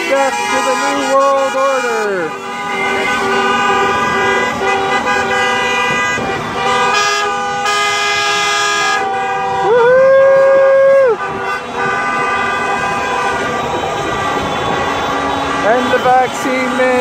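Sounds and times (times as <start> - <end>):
loud held horn: 0.0 - 17.0
vehicle horns honking: 0.0 - 17.0.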